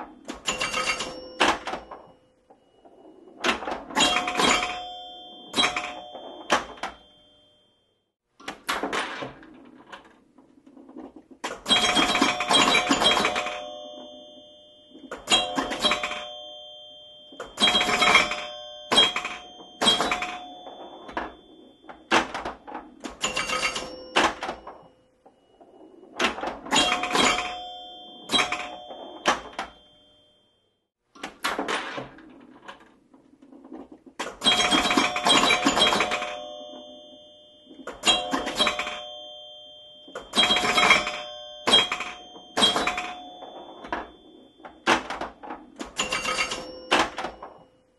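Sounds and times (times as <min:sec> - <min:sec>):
pinball chime tones: 0:00.0 - 0:47.9.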